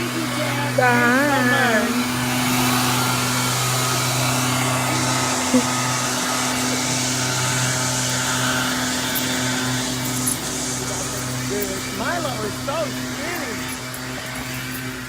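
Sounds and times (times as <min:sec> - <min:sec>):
car idling: 0:00.0 - 0:15.0
ventilation fan whooshing: 0:00.0 - 0:15.0.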